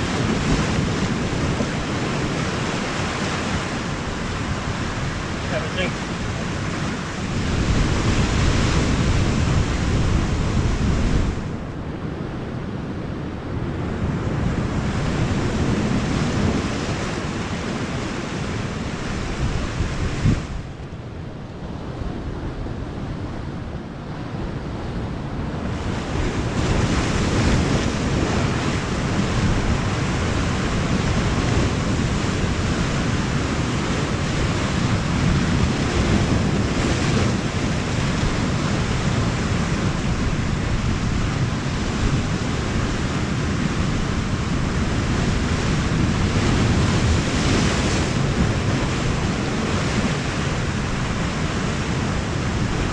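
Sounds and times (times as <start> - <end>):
sea surf washing on shore: 0.0 - 52.9
wind buffeting microphone: 0.0 - 52.9.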